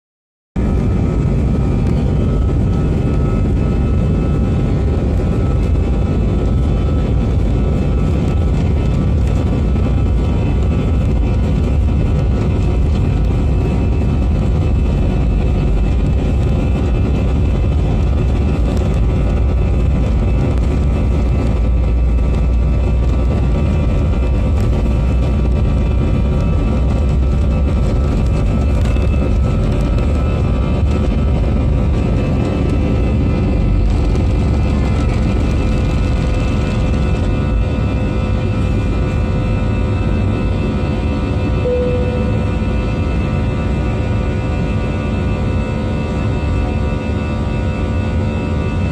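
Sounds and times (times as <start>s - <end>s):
jet engines rumbling: 0.6s - 48.9s.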